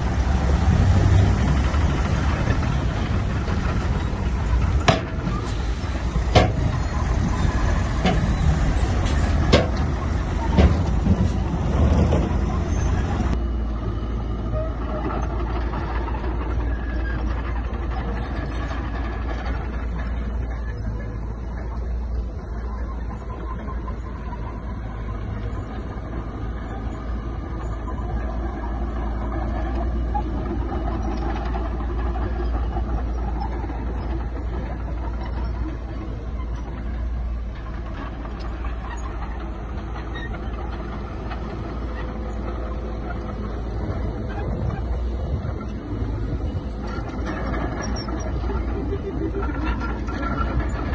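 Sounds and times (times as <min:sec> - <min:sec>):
heavy diesel engine rumble: 0:00.0 - 0:50.9.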